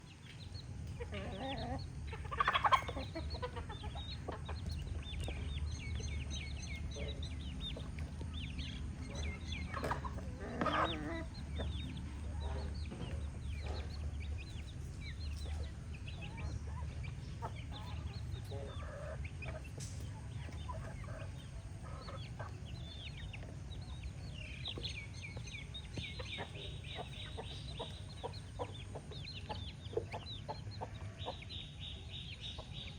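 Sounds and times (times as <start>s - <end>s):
hens clucking: 0.2s - 32.9s.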